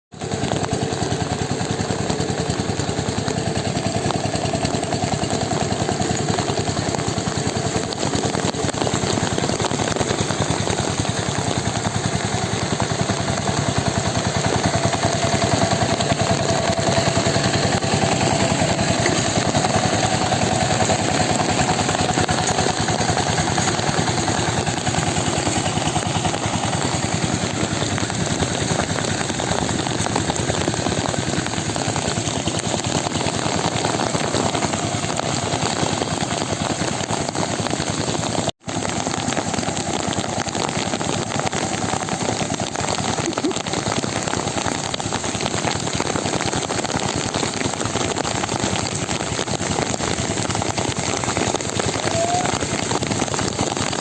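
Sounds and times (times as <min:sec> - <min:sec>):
small engine running: 0:00.2 - 0:54.0.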